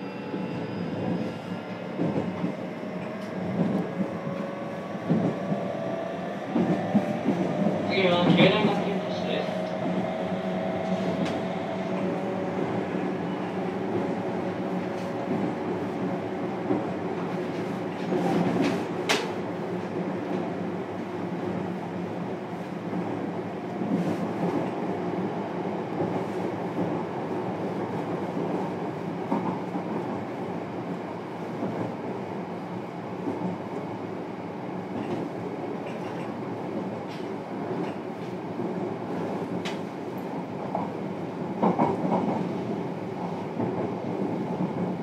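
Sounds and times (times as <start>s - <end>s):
train rolling rumble: 0.0s - 45.0s.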